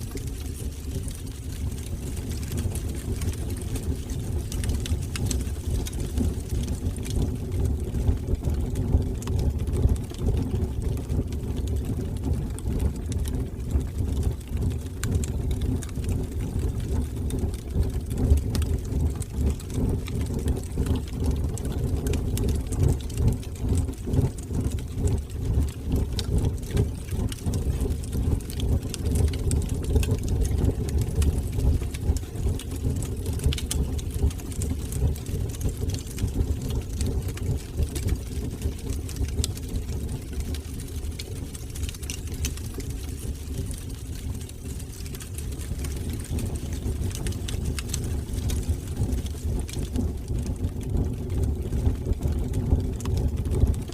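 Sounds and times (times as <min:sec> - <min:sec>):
fire crackling and popping: 0:00.0 - 0:53.9
fire roaring in fireplace: 0:00.0 - 0:53.9.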